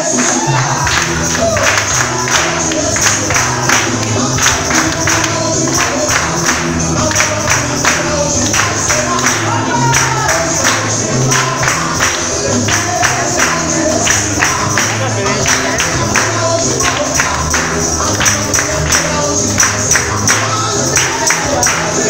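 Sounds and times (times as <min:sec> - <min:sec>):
bass line: 0:00.0 - 0:22.0
congregation clapping: 0:00.0 - 0:22.0
gospel singing: 0:00.0 - 0:22.0.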